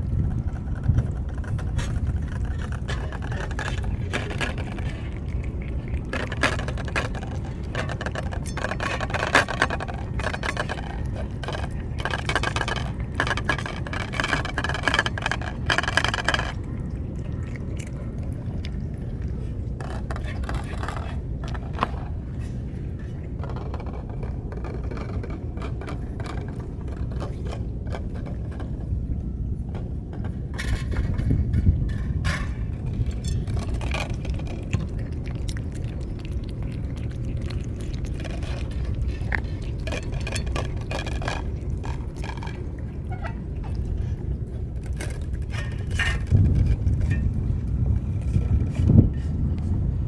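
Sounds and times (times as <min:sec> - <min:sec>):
cats chewing and licking food: 0:00.0 - 0:50.0
steady low rumble: 0:00.0 - 0:50.0.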